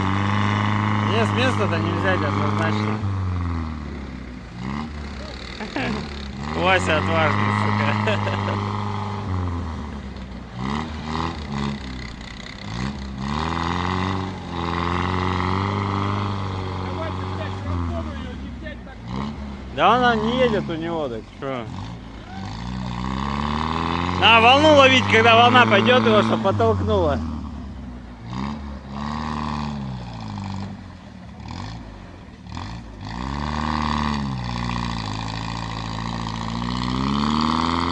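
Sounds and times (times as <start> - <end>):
off-road vehicle engine revving: 0.0 - 37.9.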